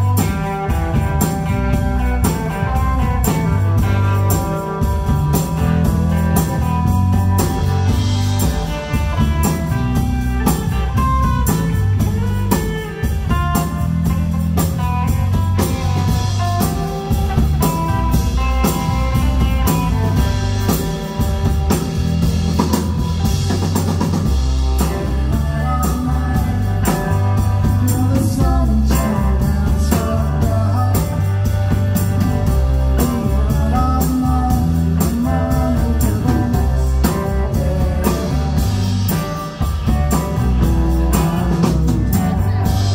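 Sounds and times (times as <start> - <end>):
drum kit beat: 0.0 - 42.9
electric bass: 0.0 - 42.9
electric guitar: 0.0 - 42.9.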